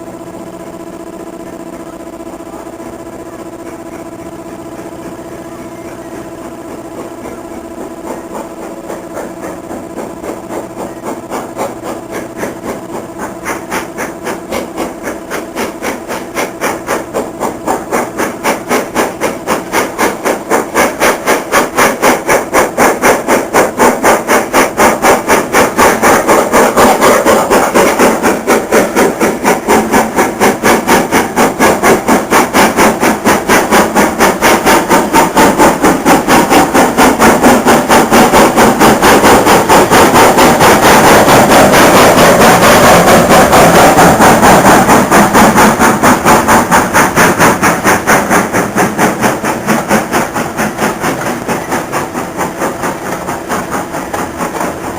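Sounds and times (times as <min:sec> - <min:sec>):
steam locomotive exhaust beats: 0:00.0 - 0:54.9.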